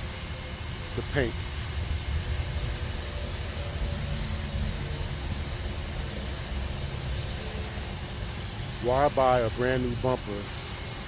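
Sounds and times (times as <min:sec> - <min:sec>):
paint spray gun hissing: 0:00.0 - 0:11.0.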